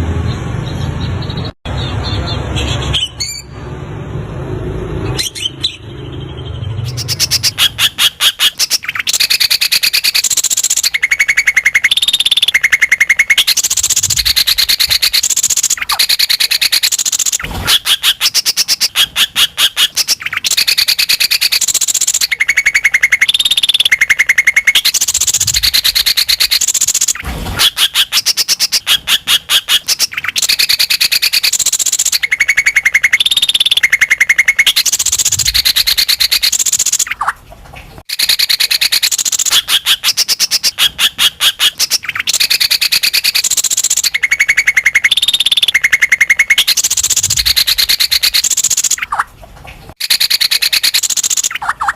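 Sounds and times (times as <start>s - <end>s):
bird singing trills and whistles: 5.1s - 37.4s, 38.1s - 49.2s, 50.0s - 51.9s.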